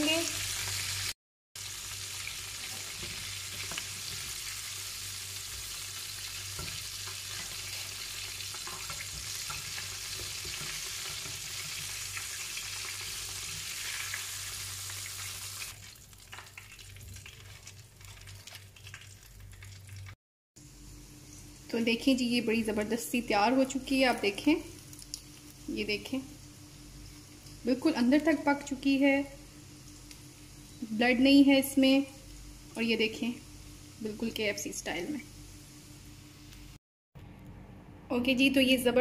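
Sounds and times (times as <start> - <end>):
chicken frying in hot oil: 0.0 - 36.8.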